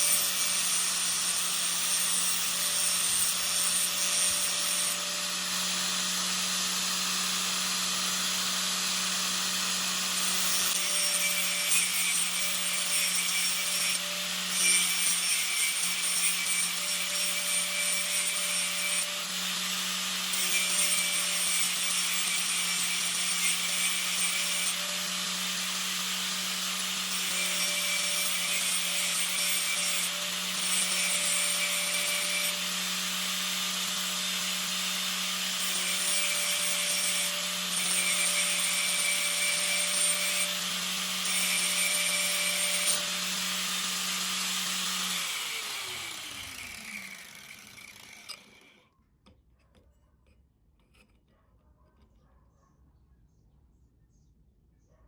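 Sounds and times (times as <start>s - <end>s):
drill bit grinding on wheel: 0.0s - 48.8s
electric grinder motor running: 0.0s - 48.8s.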